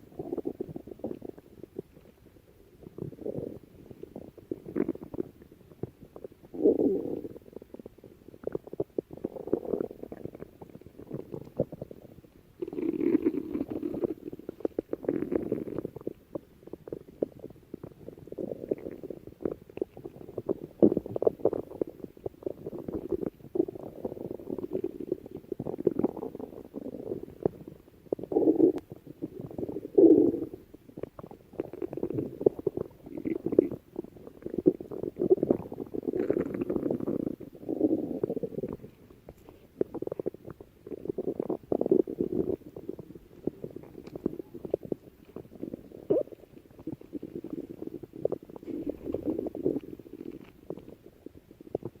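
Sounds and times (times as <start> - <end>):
stomach growling: 0.0 - 52.0.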